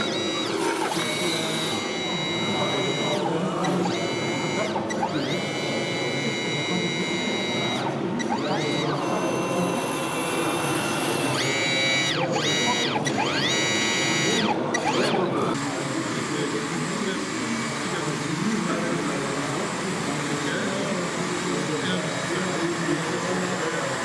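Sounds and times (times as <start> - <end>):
crowd babble: 0.0 - 24.0
electric motor whine: 0.0 - 24.0.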